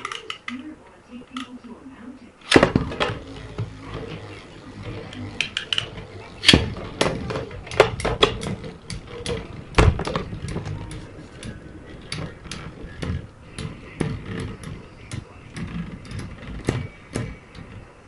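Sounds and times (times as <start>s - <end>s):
spinning tops rattling on plastic: 2.7s - 18.0s.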